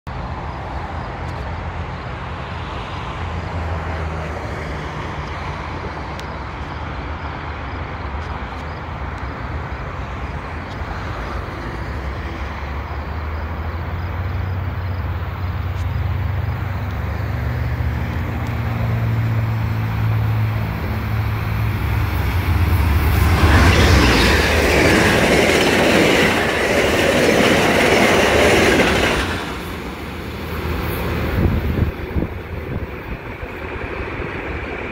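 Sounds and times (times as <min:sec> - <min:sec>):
diesel train hum: 0:00.1 - 0:34.9
train passing with rush of air: 0:00.1 - 0:34.9.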